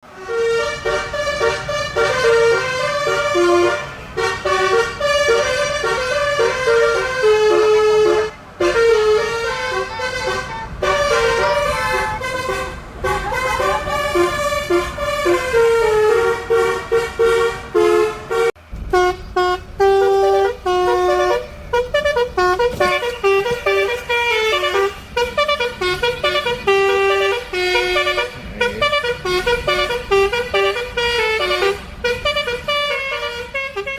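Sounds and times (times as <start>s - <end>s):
multi-tone bus horn tune: 0.0s - 33.9s.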